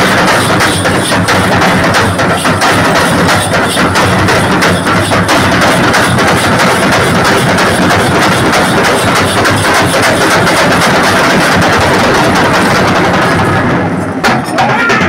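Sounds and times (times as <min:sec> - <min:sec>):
drum ensemble playing fast: 0:00.0 - 0:15.0.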